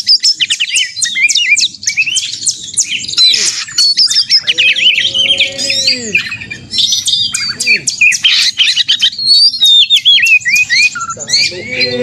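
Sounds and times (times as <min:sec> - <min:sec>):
magpie-robin singing fast: 0:00.0 - 0:12.0.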